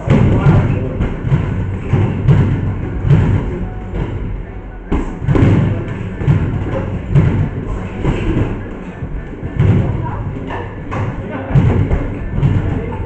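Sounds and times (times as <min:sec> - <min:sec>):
background music: 0:00.0 - 0:13.0
footwork on canvas: 0:00.0 - 0:13.0.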